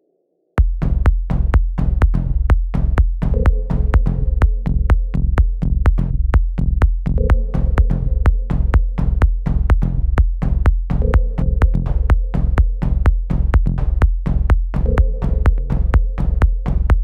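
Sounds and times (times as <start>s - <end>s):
bass line: 0.6s - 17.0s
drum machine kick: 0.6s - 17.0s.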